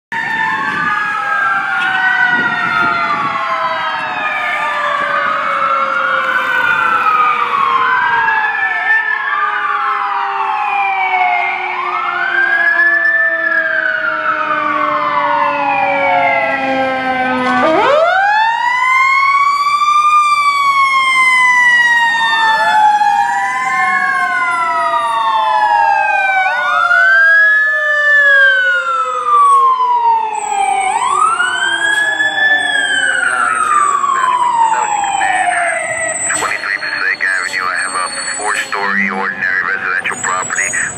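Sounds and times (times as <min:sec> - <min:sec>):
slow falling siren tone: 0:00.1 - 0:38.8
wailing sirens: 0:00.1 - 0:40.9.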